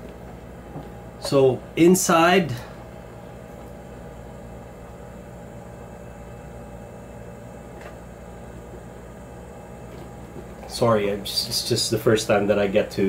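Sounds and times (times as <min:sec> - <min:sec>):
low electrical hum and hiss: 0:00.0 - 0:13.0.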